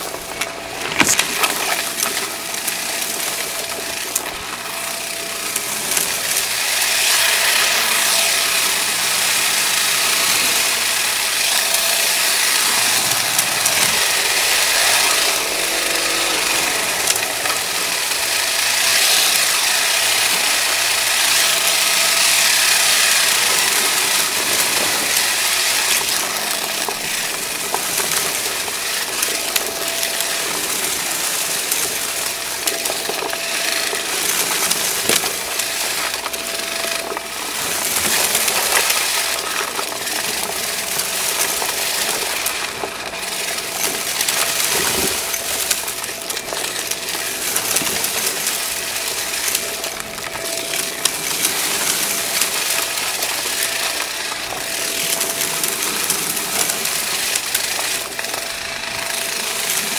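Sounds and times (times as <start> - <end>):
vacuum cleaner running over carpet: 0.0 - 59.9.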